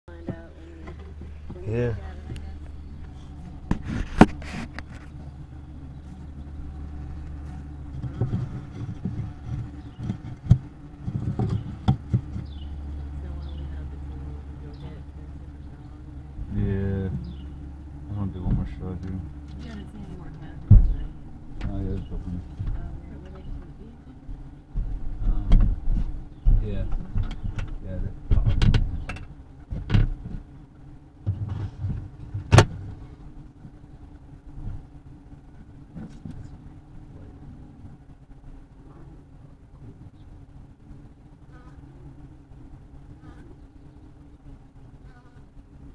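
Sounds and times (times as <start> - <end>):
bees humming in a hive: 0.1 - 45.9.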